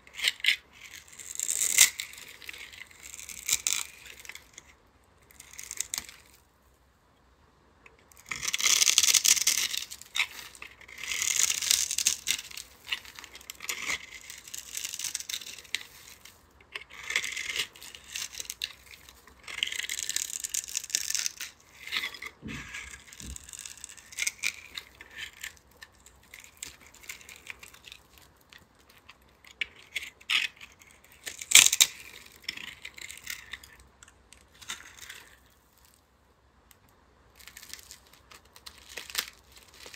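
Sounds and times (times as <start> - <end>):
knife scraping soap: 0.0 - 6.5, 7.9 - 36.0, 37.4 - 39.9.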